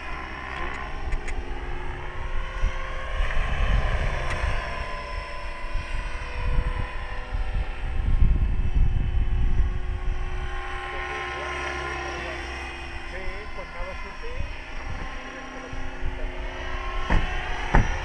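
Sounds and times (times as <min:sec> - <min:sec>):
wind buffeting microphone: 0:00.0 - 0:11.0, 0:13.0 - 0:18.0
rc helicopter motor whine: 0:00.0 - 0:18.0.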